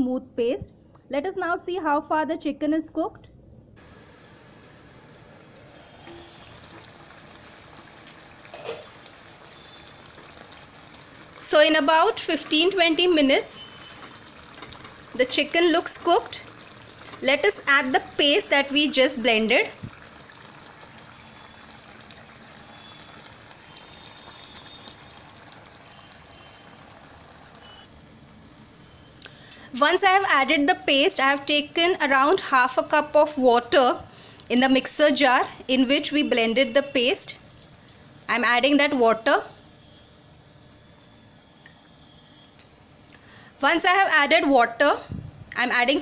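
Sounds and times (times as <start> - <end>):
gravy bubbling: 3.8 - 41.6.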